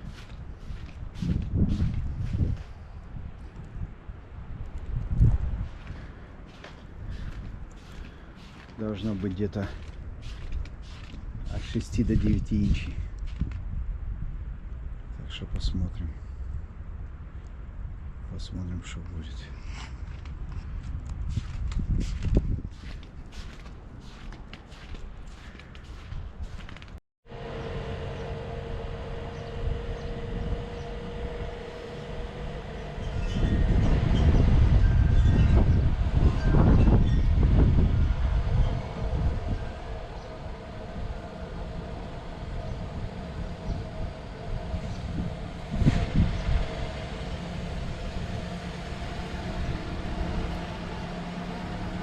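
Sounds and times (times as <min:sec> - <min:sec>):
vehicle engine whine: 0:00.0 - 0:13.7, 0:21.3 - 0:52.0
heavy low rumble: 0:00.0 - 0:18.8, 0:20.2 - 0:52.0.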